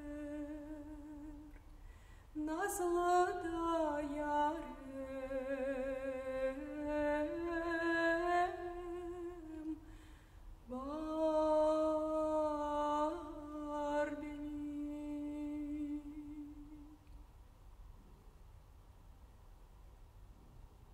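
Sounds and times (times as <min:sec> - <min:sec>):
woman singing classical: 0:00.0 - 0:17.1.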